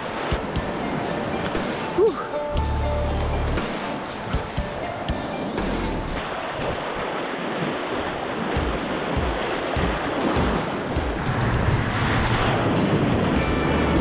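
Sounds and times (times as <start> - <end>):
rushing whitewater roar: 0.0 - 14.0.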